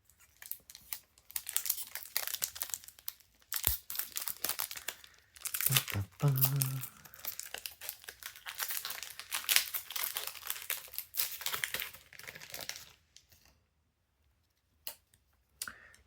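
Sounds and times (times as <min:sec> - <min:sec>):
plastic wrapper crinkling: 0:00.1 - 0:13.5.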